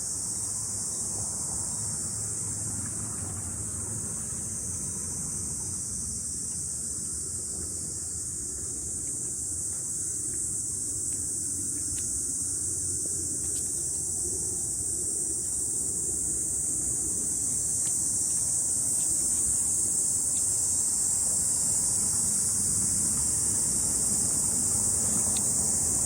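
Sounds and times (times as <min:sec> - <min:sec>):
cicada chorus buzzing: 0:00.0 - 0:26.0.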